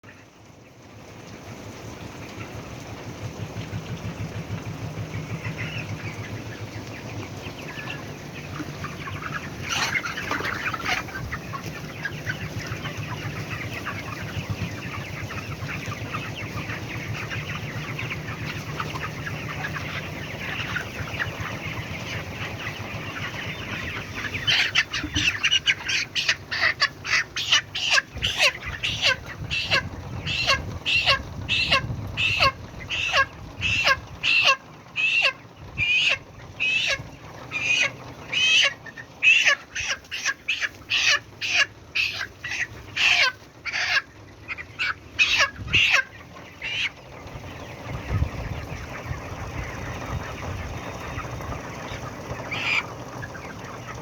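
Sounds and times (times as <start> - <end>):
chicks chattering and cheeping: 0.0 - 54.0
sharp chick calls: 5.0 - 54.0.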